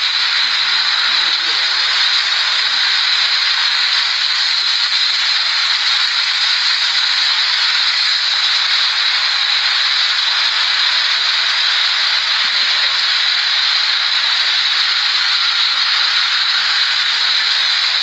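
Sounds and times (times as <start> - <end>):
tornado winds hissing: 0.0 - 18.0.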